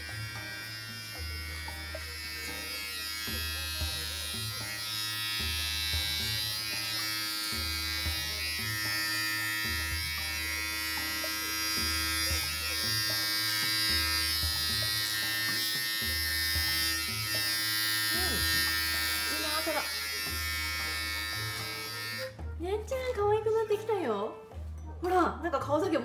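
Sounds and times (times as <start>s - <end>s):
electric hair clipper running: 0.0s - 22.4s.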